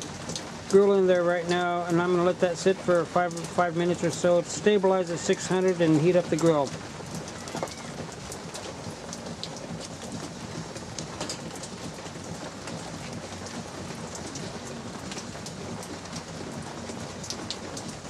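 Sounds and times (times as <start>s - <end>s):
drips tapping: 0.0s - 18.0s
light drizzle: 0.0s - 18.0s.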